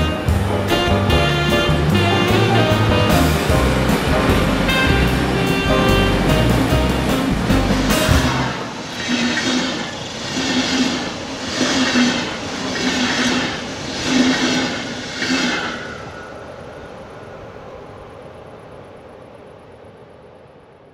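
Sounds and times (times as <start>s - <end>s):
train wheels on rails: 0.0s - 18.6s.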